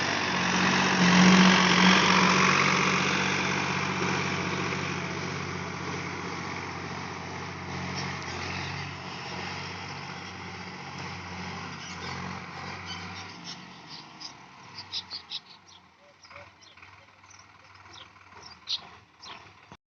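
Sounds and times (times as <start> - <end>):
tractor engine running: 0.0 - 19.8.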